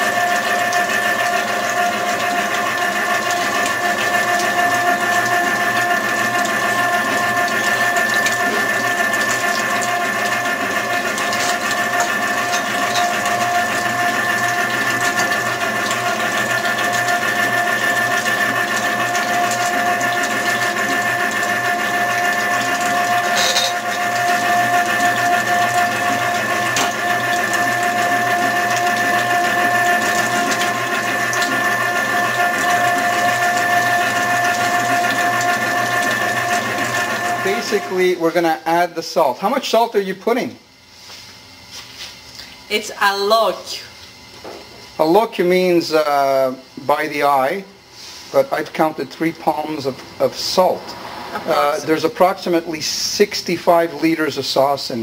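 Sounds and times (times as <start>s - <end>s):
tomato strainer motor whine: 0.0s - 55.0s.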